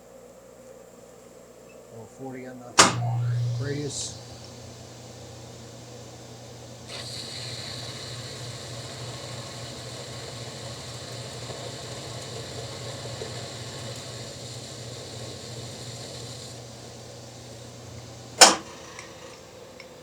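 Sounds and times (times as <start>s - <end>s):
lathe tool cutting steel: 2.8s - 19.4s
lathe motor humming: 2.8s - 20.0s.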